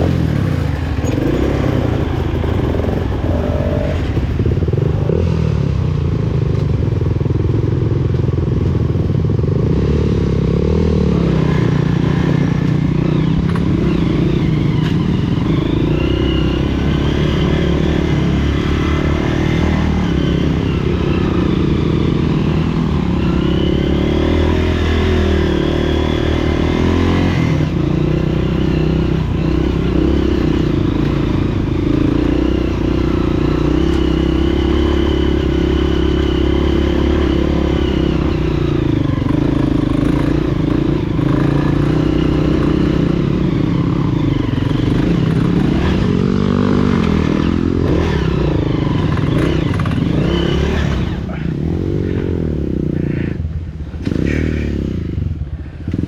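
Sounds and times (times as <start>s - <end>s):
dirt bike engine revving: 0.0s - 6.6s, 9.5s - 56.0s.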